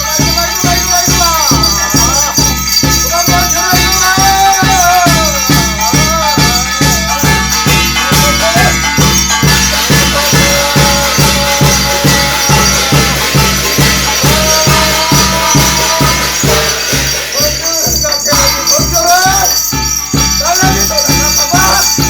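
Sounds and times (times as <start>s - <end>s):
jangling metal percussion: 0.0s - 22.0s
steady drum beat: 0.0s - 22.0s.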